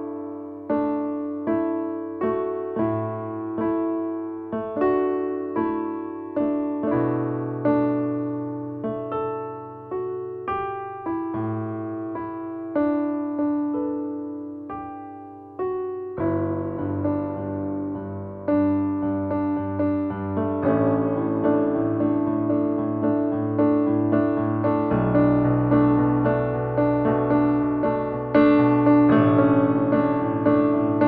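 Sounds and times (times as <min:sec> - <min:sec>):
gentle electric piano music: 0:00.0 - 0:31.0.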